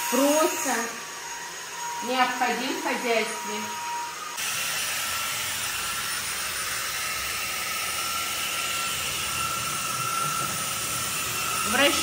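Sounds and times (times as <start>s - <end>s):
vacuum motor whine: 0.0s - 12.0s.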